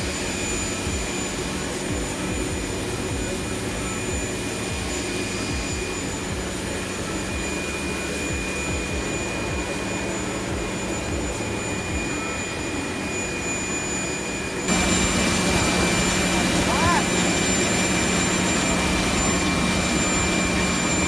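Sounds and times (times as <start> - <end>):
jet engine whine and rush: 0.0 - 21.0.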